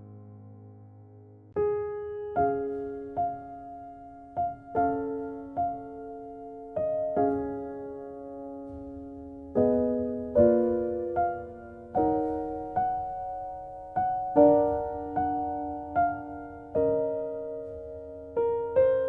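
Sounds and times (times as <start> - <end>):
soft piano chords: 0.0 - 19.0.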